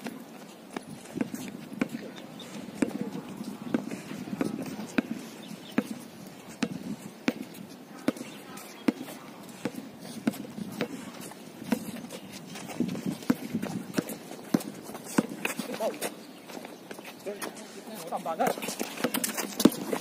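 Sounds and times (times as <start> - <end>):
basketball bouncing on concrete: 0.0 - 16.0, 18.4 - 20.0
faint voices: 1.7 - 6.0, 7.6 - 20.0.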